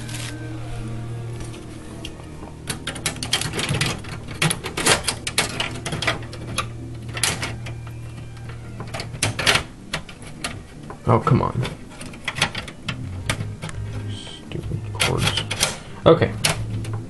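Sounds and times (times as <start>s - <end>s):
drive tray clicking and rattling: 2.6s - 17.0s.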